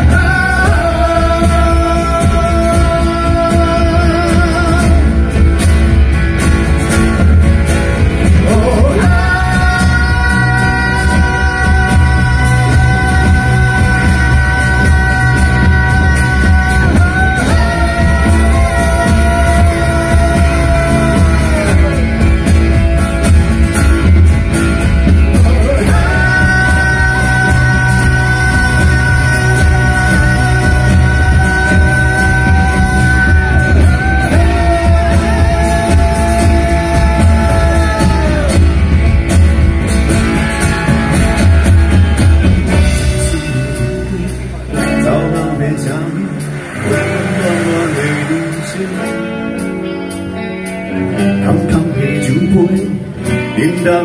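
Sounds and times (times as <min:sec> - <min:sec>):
person singing: 0:00.0 - 0:05.5, 0:08.2 - 0:54.0
live rock band playing: 0:00.0 - 0:54.0.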